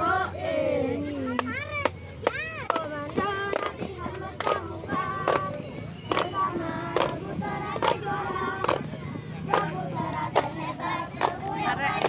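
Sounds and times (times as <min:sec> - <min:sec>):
girls singing together: 0:00.0 - 0:12.0
hand claps: 0:01.3 - 0:12.0.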